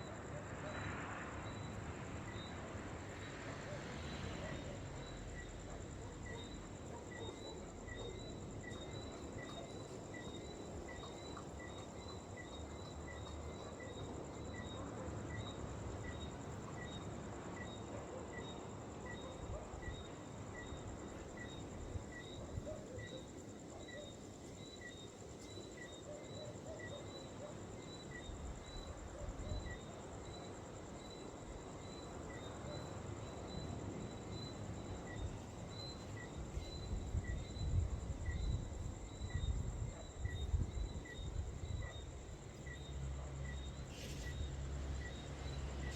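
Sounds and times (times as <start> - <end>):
insects trilling: 4.0 - 45.9.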